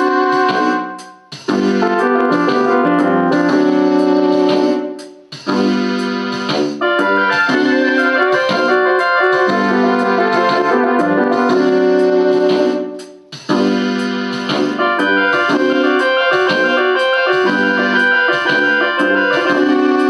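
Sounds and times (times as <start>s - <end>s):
electronic keyboard piano chords: 0.0s - 20.0s.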